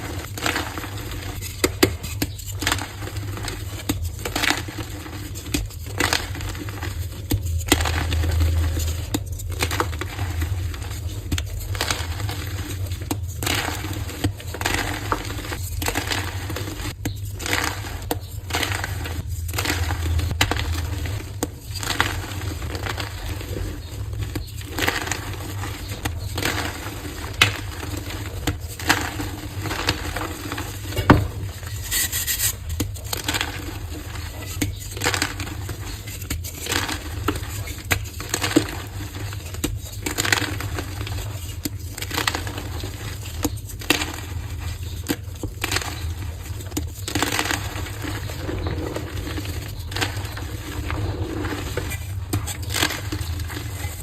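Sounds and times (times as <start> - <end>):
chalk being crushed: 0.1 - 54.0.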